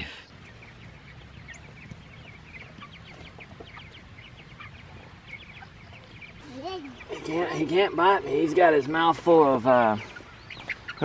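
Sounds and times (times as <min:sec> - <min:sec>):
chicks peeping: 0:00.0 - 0:11.0
low steady background noise: 0:00.0 - 0:11.0.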